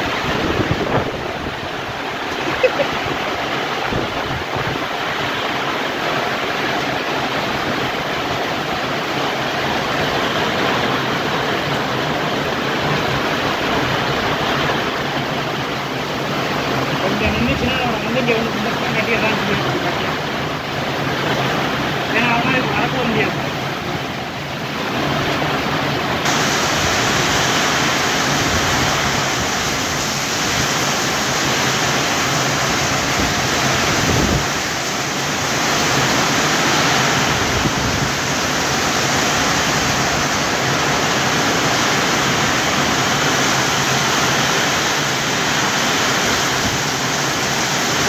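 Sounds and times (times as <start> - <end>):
heavy rain pouring: 0.0 - 48.0
rain drumming on a metal roof: 0.0 - 48.0.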